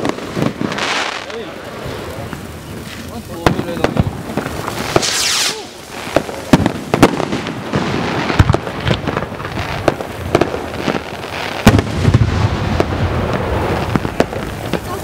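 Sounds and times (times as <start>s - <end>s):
sparkler crackles and pops: 0.0s - 15.0s
sparklers hissing: 0.0s - 15.0s.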